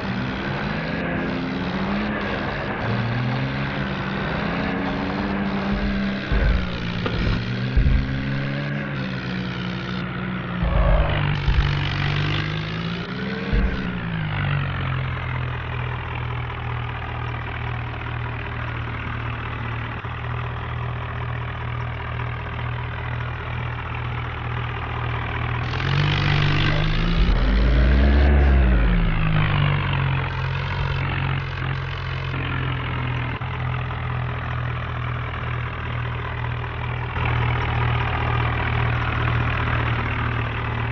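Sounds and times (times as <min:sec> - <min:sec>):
vehicle engine idling and revving: 0:00.0 - 0:40.9.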